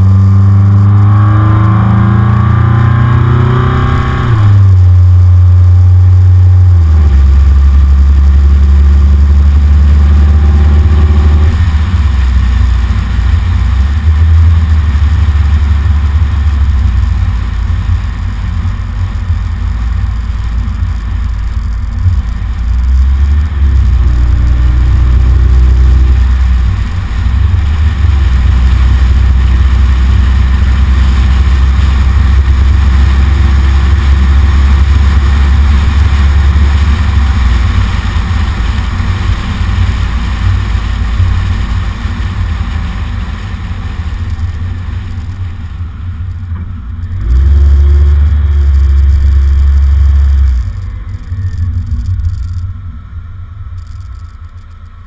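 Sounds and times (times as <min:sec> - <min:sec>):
car engine at steady speed: 0:00.0 - 0:55.0
road rumble: 0:00.0 - 0:55.0.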